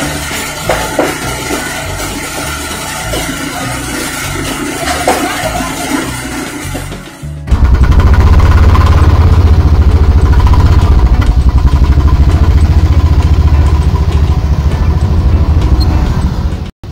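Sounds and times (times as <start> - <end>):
motor scooter engine running: 0.0 - 16.9.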